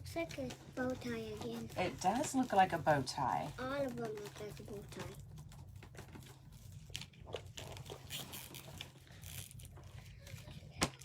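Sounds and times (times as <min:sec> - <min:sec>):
materials rustling: 0:00.0 - 0:11.0.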